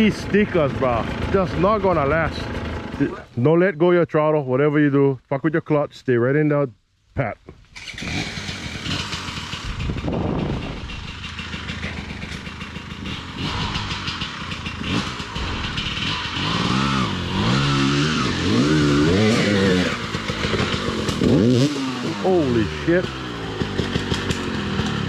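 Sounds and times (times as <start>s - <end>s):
dirt bike engine revving: 0.0s - 3.3s, 7.8s - 25.0s.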